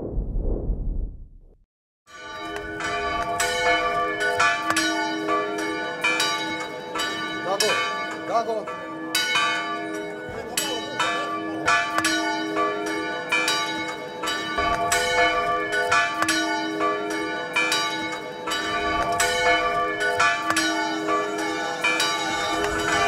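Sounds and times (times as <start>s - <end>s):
bells ringing: 2.1s - 23.0s.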